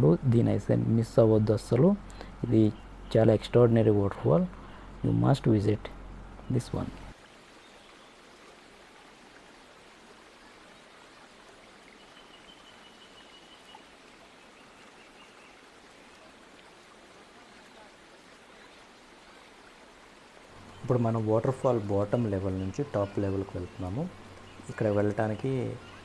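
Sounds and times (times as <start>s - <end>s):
faint waterfall rush: 0.0s - 26.0s.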